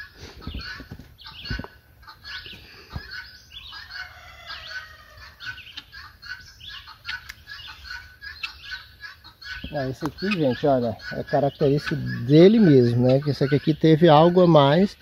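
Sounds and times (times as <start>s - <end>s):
birds chirping and clucking: 0.0s - 15.0s.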